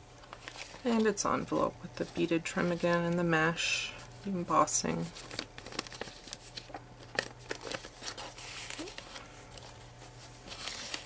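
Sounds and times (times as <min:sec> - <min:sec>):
paper rustling: 0:00.2 - 0:03.2, 0:04.9 - 0:11.0.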